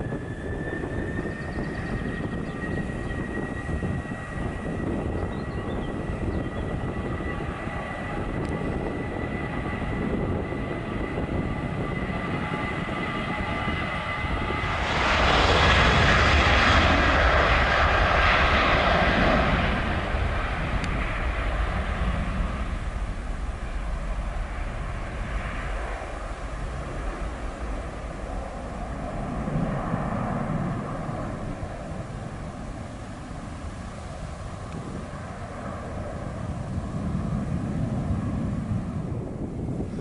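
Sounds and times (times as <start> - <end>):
jet engine whine: 0.0 - 40.0
jet takeoff roar: 0.0 - 40.0.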